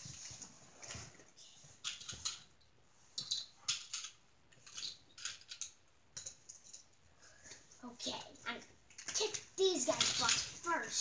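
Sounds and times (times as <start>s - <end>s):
toy vehicles clicking and scraping: 0.0s - 2.5s, 3.1s - 11.0s.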